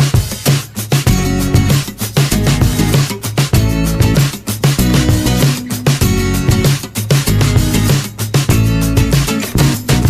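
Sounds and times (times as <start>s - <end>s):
music with steady beat: 0.0s - 10.0s
strummed guitar: 0.0s - 10.0s.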